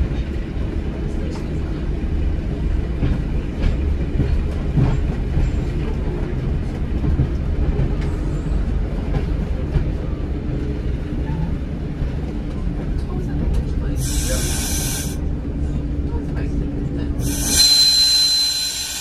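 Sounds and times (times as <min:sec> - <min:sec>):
diesel train engine rumble: 0:00.0 - 0:19.0.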